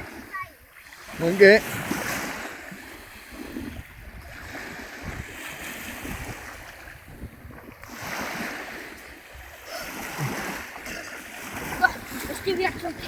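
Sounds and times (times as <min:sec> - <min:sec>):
waves washing onto beach: 0:00.0 - 0:13.0
wind rumbling on microphone: 0:00.0 - 0:13.0.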